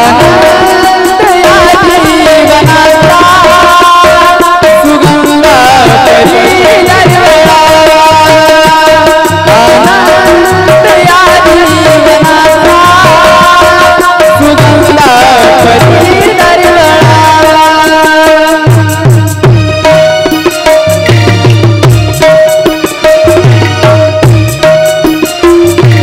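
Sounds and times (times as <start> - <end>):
tabla beat: 0.0 - 26.0.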